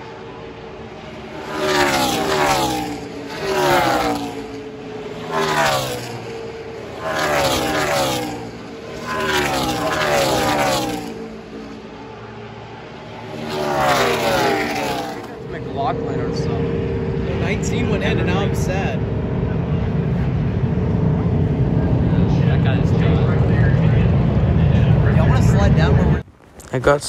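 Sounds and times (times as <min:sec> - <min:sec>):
race truck engines passing: 0:00.0 - 0:27.0.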